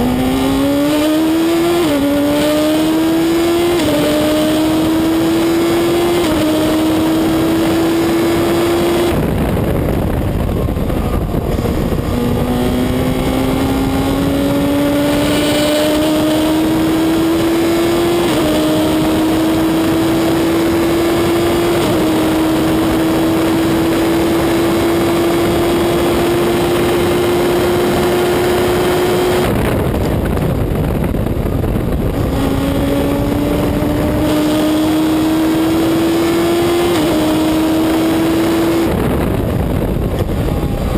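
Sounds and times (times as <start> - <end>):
race car engine accelerating: 0.0 - 40.9.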